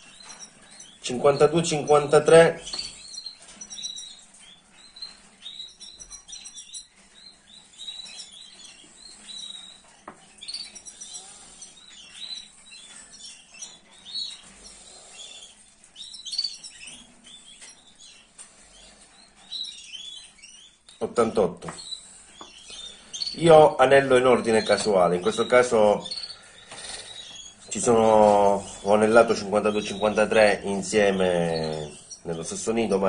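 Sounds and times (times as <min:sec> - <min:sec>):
nestlings peeping: 0:00.0 - 0:33.0.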